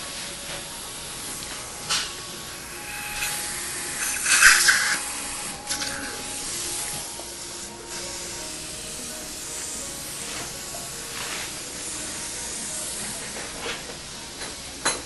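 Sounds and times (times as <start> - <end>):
dental suction hiss: 0.0 - 15.0
water spray bursts: 1.0 - 13.8.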